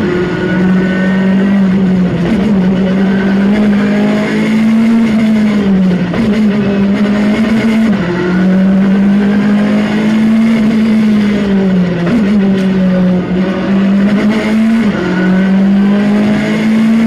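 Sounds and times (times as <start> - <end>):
rally car engine revving high: 0.0 - 17.0.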